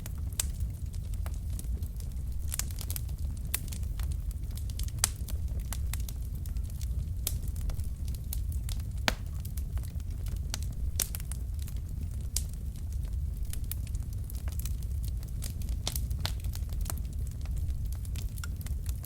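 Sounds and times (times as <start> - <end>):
logs crackling in a fireplace: 0.0 - 19.0.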